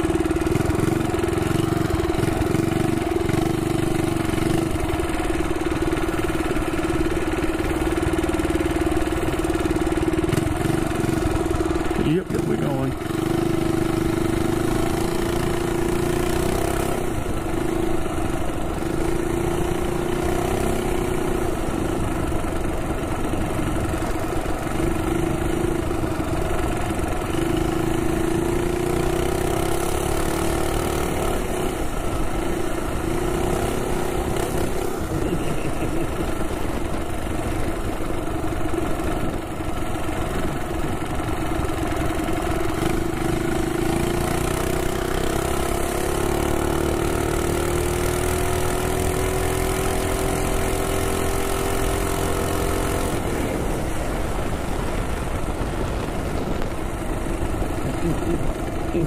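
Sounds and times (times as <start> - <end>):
minibike engine running: 0.0 - 59.0.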